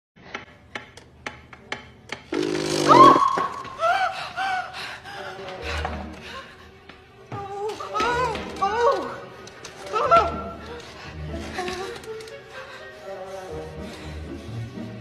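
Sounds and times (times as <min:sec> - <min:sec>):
orchestral film music: 0:00.5 - 0:15.0.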